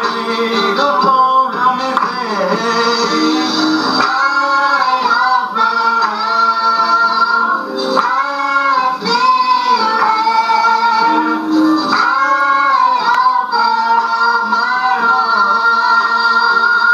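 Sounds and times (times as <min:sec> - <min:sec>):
people singing gospel song: 0:00.0 - 0:16.9
prerecorded accompaniment music: 0:00.0 - 0:16.9.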